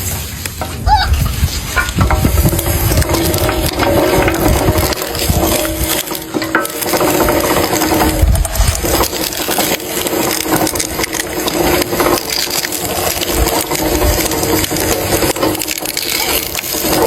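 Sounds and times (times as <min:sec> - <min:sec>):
juicer cracking produce: 0:00.0 - 0:17.0.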